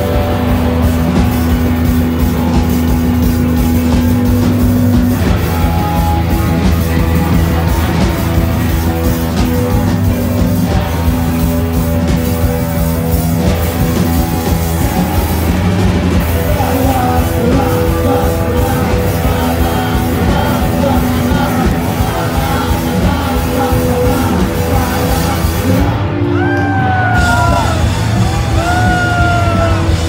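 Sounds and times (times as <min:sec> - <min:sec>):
live rock band playing loud: 0:00.0 - 0:30.0.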